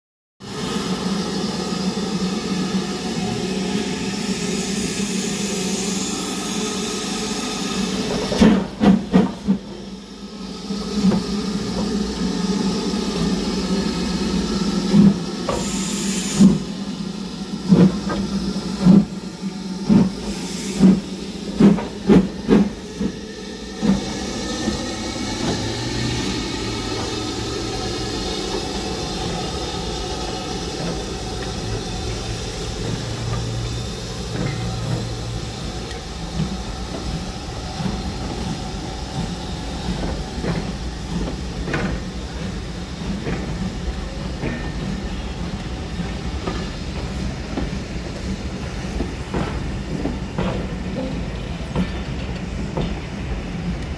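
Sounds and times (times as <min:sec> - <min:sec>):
steam locomotive hissing: 0:00.4 - 0:53.9.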